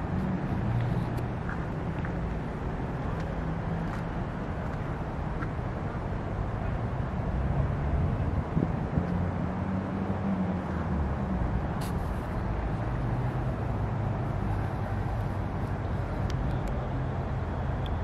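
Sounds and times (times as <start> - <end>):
vehicle rumble with road noise: 0.0 - 18.0.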